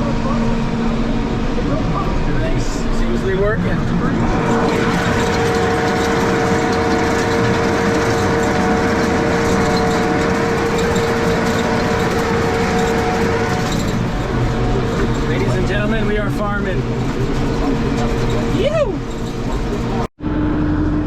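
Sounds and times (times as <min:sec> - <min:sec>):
steady whine: 0:00.0 - 0:21.0
tractor engine running: 0:00.0 - 0:21.0.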